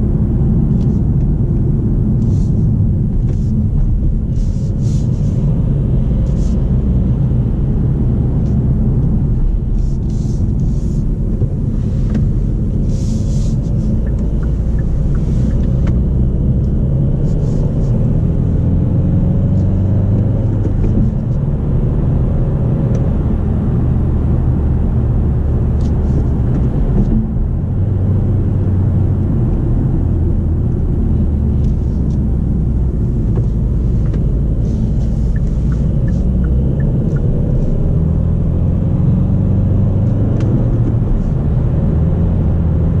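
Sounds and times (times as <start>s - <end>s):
car engine running: 0.0s - 43.0s
road noise: 0.0s - 43.0s.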